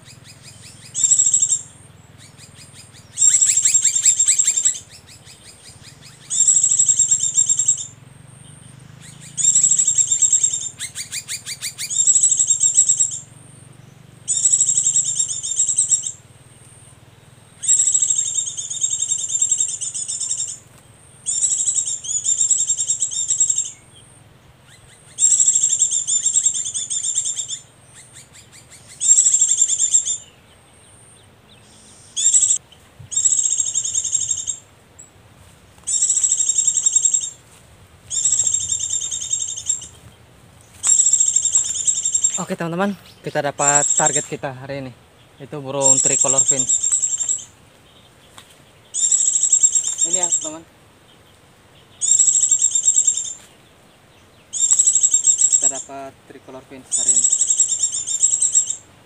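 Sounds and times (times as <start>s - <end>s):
recorded bird trilling: 0.0s - 35.2s, 35.8s - 59.0s.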